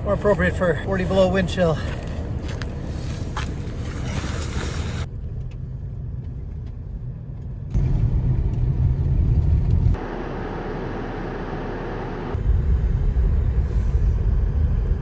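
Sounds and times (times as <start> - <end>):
van engine and road noise: 0.0 - 15.0.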